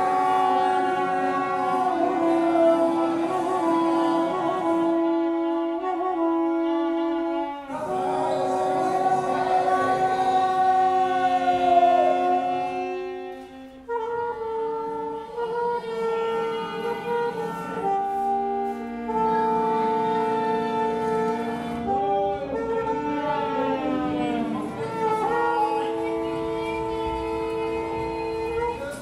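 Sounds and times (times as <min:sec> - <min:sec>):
reed wind instrument long notes: 0:00.0 - 0:29.0.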